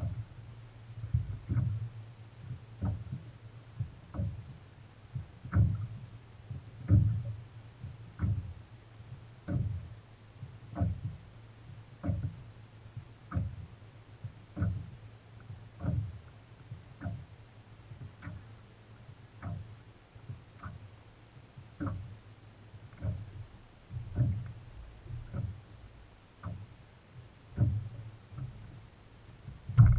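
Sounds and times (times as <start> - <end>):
waves slapping boat hull: 0.0 - 29.9.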